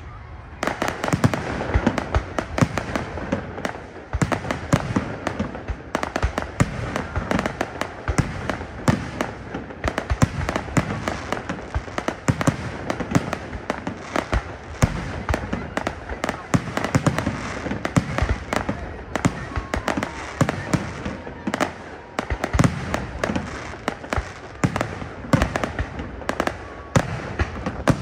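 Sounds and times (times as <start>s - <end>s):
fireworks bursting with bangs: 0.0s - 28.0s.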